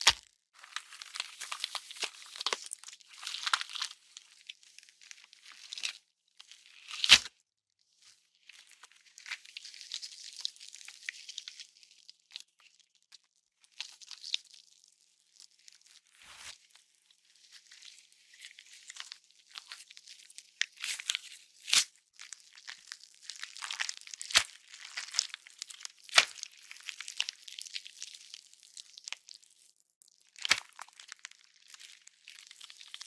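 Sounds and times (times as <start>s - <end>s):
wet flesh tearing and squishing: 0.0s - 7.3s, 8.5s - 13.1s, 13.7s - 14.8s, 17.7s - 33.0s.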